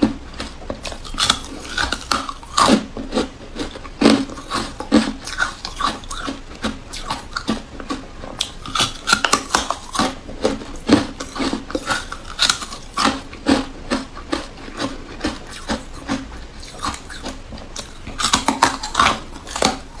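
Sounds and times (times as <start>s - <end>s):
crunching ice: 0.0s - 20.0s.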